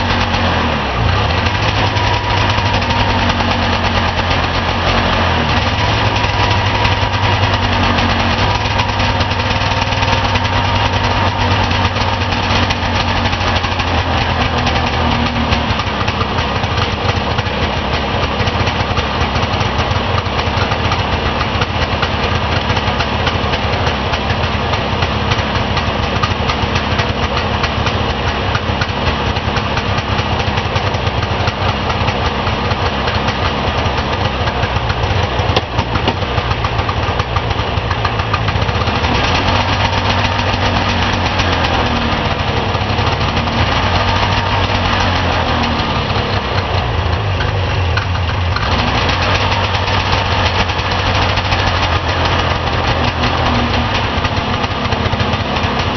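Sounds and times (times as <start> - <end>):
two-stroke engine running: 0.0 - 55.9.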